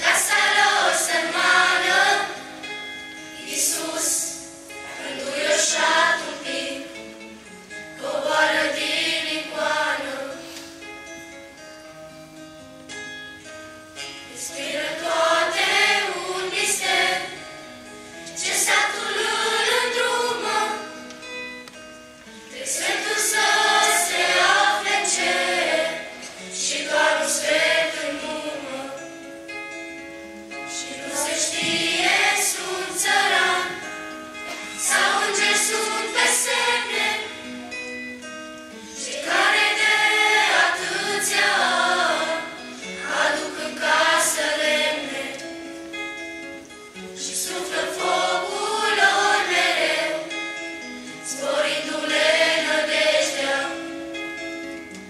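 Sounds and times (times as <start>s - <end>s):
children's choir singing a carol: 0.0s - 7.3s, 7.9s - 10.8s, 14.3s - 17.6s, 18.2s - 21.0s, 22.5s - 29.3s, 30.6s - 37.9s, 38.7s - 45.7s, 47.2s - 54.2s
held accompaniment notes: 0.0s - 55.0s.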